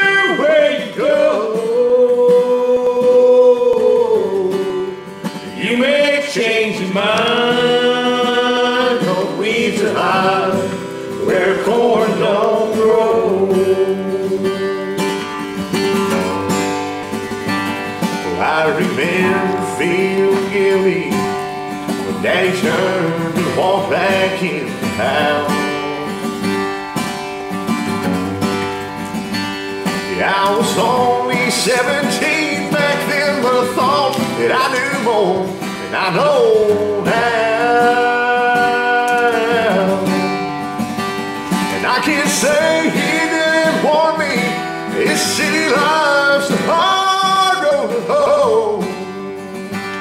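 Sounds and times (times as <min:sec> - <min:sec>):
country music with guitar: 0:00.0 - 0:50.0.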